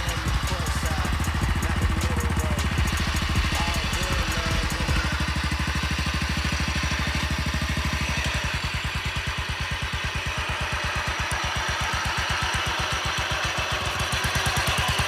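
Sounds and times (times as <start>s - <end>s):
lawn tractor engine at low revs: 0.0s - 15.0s.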